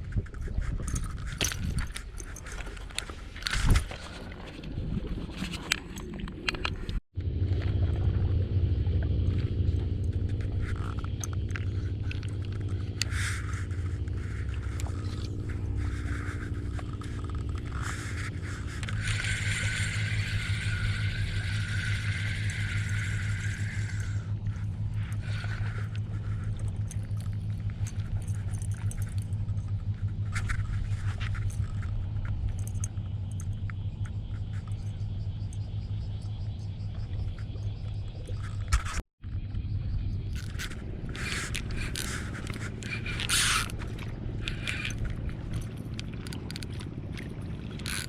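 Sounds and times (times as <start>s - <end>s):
engine humming: 6.2s - 48.0s.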